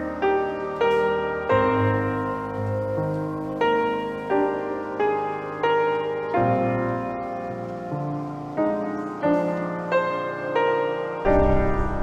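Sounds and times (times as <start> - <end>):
piano-like keyboard chords: 0.0 - 12.0.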